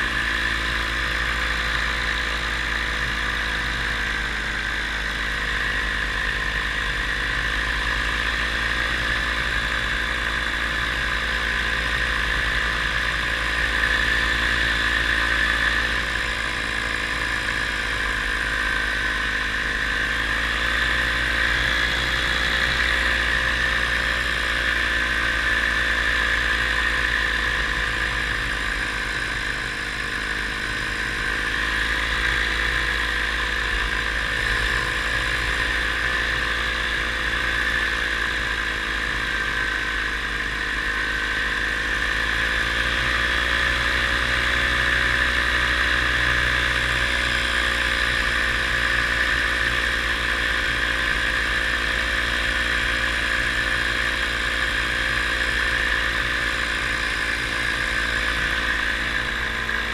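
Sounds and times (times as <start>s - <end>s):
paramotor engine droning: 0.0s - 59.9s.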